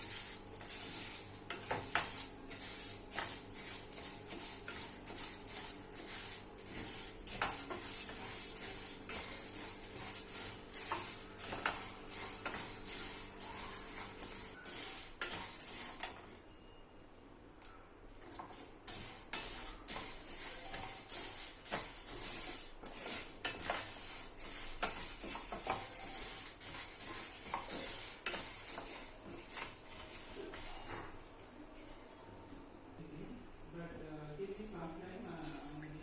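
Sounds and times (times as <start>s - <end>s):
metal spoon scraping a pan: 0.0s - 16.3s, 18.2s - 31.1s.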